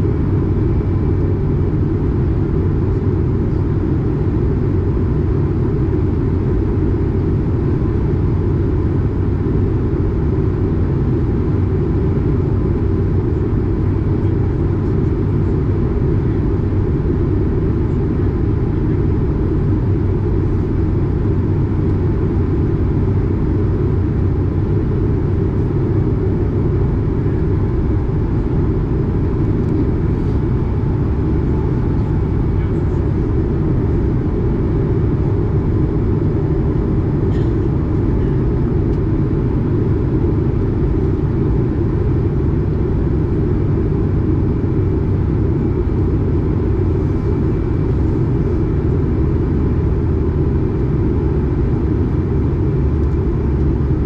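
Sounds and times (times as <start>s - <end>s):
aircraft cabin rumble: 0.0s - 54.0s
faint steady whine: 0.0s - 54.0s.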